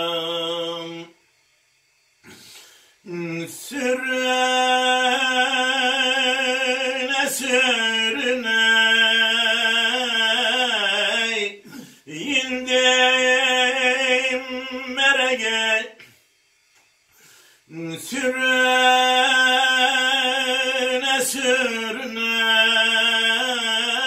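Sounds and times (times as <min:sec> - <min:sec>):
man singing unaccompanied: 0:00.0 - 0:01.2, 0:03.0 - 0:16.1, 0:17.7 - 0:24.0.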